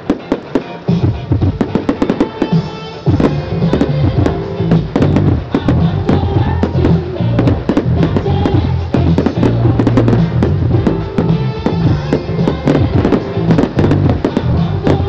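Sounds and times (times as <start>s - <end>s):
fireworks banging and crackling: 0.0s - 15.0s
loud music with deep bass: 0.0s - 15.0s.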